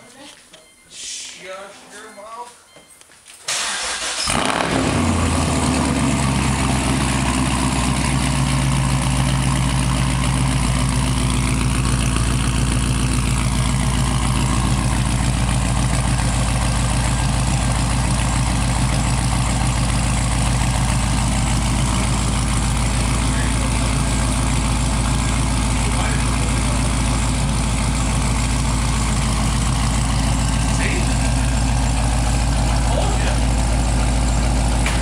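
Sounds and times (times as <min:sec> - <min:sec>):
car engine idling: 0:03.6 - 0:35.0.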